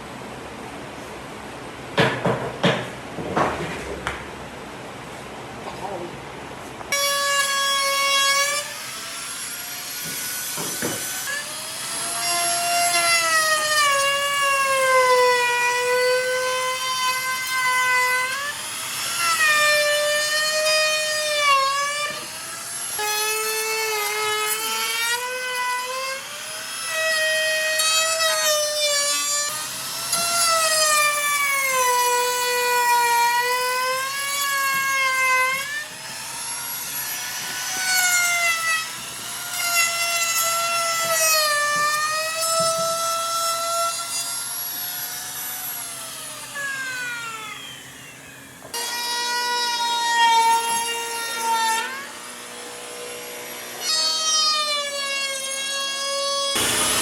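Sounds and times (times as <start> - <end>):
power tool cutting wood: 6.9 - 57.0.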